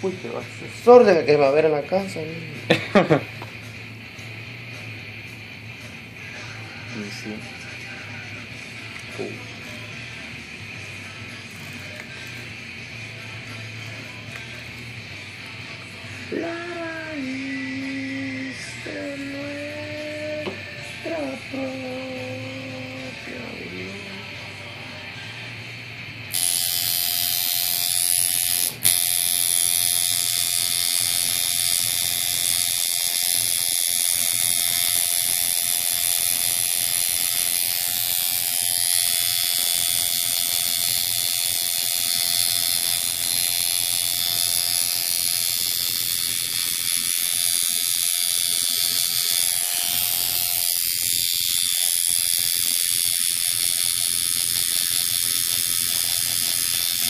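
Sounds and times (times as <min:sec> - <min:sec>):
tattoo machine buzzing: 0:00.0 - 0:57.0.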